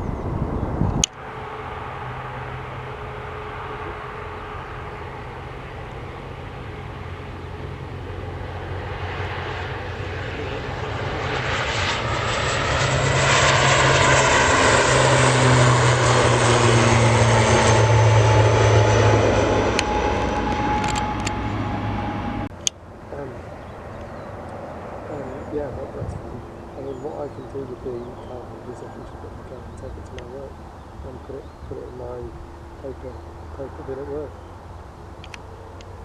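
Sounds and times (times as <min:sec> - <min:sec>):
whining tones sliding down: 0:00.0 - 0:34.4
airliner engine noise passing: 0:00.0 - 0:36.0.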